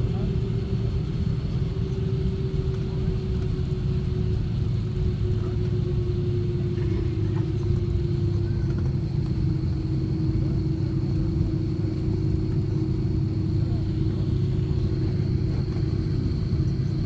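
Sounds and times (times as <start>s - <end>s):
airliner cabin rumble: 0.0s - 17.0s
steady hum: 0.0s - 17.0s.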